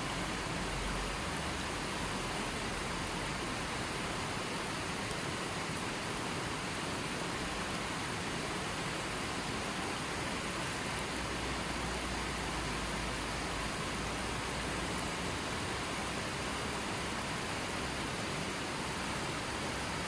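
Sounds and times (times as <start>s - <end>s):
rushing hiss of water: 0.0s - 20.0s.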